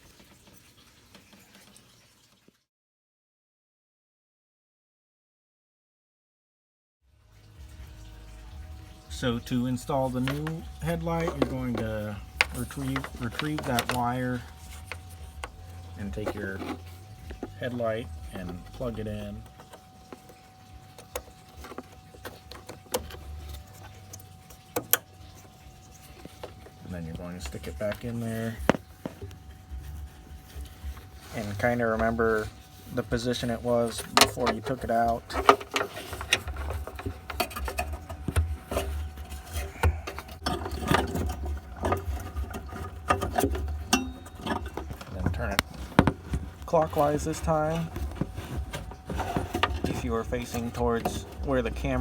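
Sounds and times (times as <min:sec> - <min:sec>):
plastic rubbing and clicking: 0:09.2 - 0:52.0.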